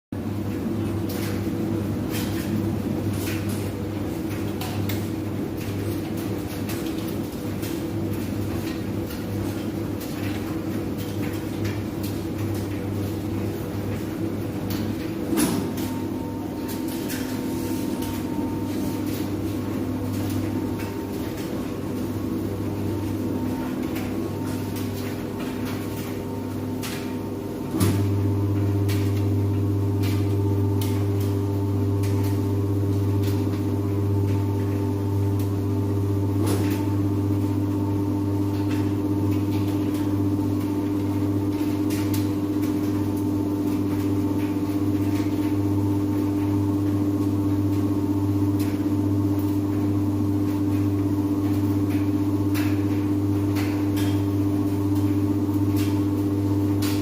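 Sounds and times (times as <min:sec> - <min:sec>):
washing machine motor hum: 0:00.1 - 0:57.0.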